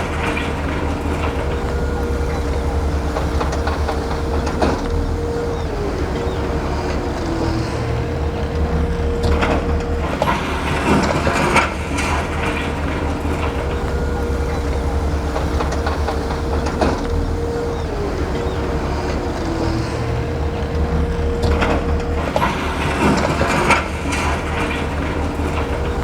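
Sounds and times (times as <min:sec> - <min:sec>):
clanks and rattles: 0:00.0 - 0:26.0
large diesel engine whining: 0:00.0 - 0:26.0.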